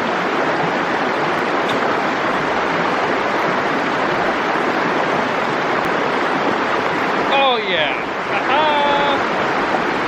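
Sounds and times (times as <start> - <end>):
creek water rushing over rocks: 0.0 - 10.0.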